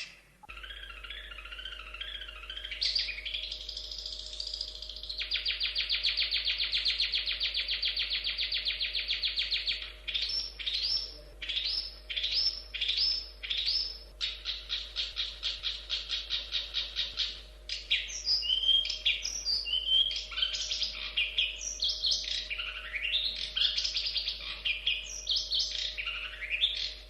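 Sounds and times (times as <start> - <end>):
bird singing sharp notes: 0.0 - 27.0.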